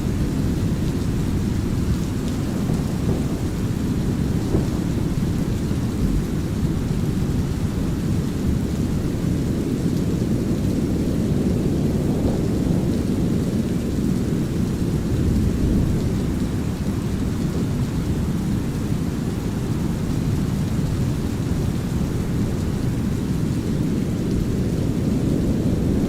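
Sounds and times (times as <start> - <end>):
light rain: 0.0 - 26.0
low rolling thunder: 0.0 - 26.0.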